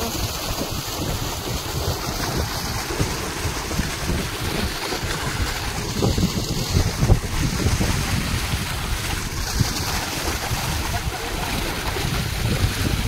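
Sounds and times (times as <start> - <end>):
water gushing from pipe: 0.0 - 13.0
wind buffeting microphone: 0.0 - 13.0.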